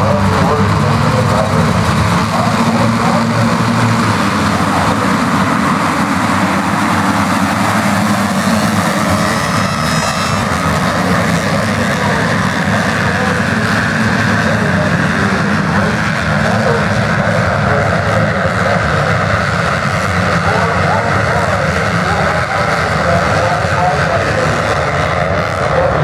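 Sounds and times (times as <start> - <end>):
dirt bike engines: 0.0 - 26.0.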